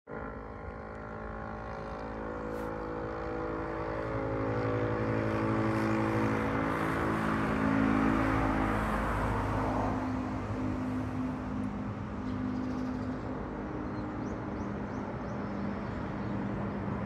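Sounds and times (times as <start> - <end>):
road noise: 0.1 - 17.0
vehicle engine hum: 0.1 - 17.0.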